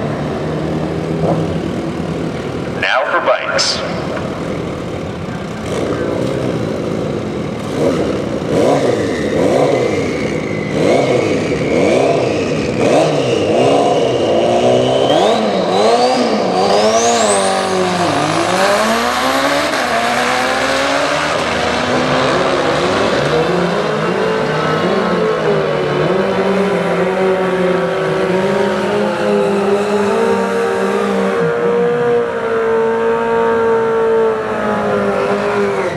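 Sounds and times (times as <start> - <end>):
motorcycles revving and accelerating: 0.0 - 35.9.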